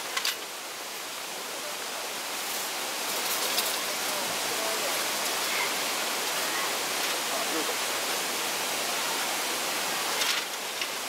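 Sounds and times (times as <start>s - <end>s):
mountain stream flowing over stones: 0.0s - 11.0s.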